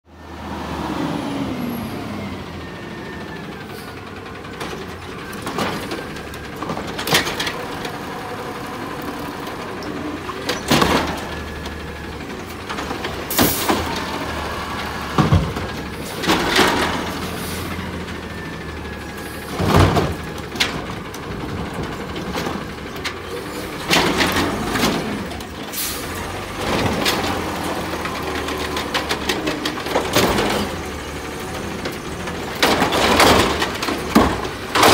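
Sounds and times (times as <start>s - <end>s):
garbage truck engine humming: 0.1s - 34.9s.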